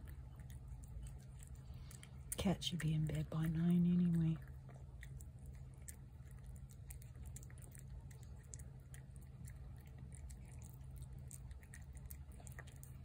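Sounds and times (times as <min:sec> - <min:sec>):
cat chewing clicks: 0:00.0 - 0:13.0
low steady hum: 0:00.0 - 0:13.0.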